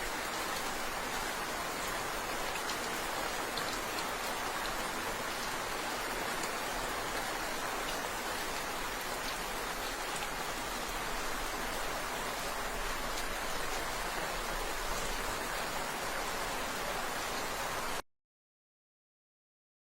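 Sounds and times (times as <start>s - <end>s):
raindrop ticks: 0.0s - 18.0s
steady rain falling: 0.0s - 18.0s.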